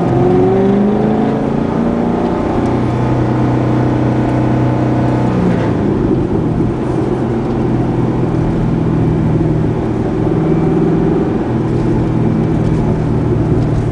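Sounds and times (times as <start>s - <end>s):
car engine exhaust drone: 0.0s - 13.9s.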